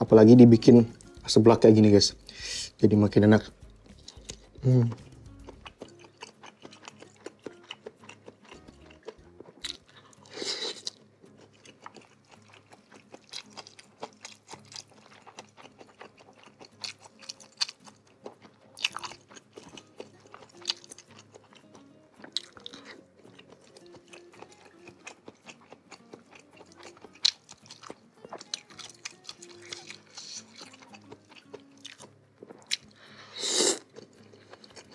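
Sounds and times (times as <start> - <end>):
quiet background music: 0.0 - 34.9
close chewing and mouth sounds: 3.5 - 34.9.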